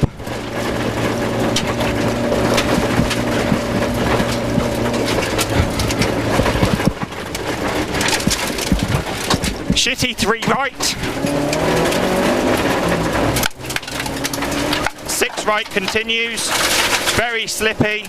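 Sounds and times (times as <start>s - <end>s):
car engine pulling under load: 0.0s - 18.0s
gravel pinging against car underside: 0.0s - 18.0s.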